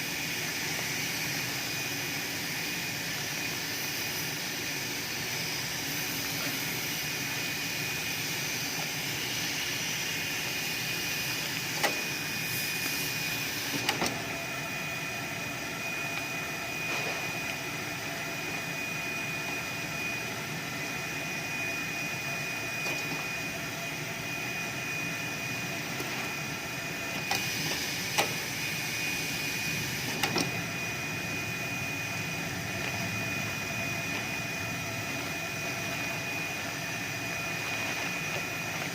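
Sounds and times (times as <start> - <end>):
sealer machine humming: 0.0 - 38.9.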